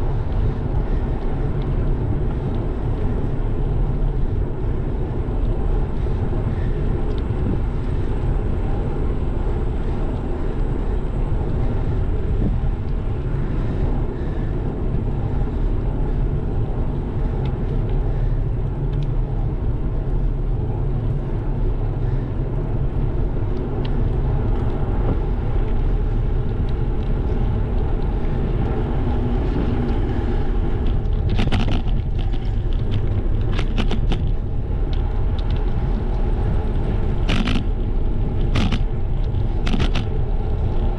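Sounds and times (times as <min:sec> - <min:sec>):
bicycle tyre rumble: 0:00.0 - 0:40.9
wind buffeting microphone: 0:00.0 - 0:40.9.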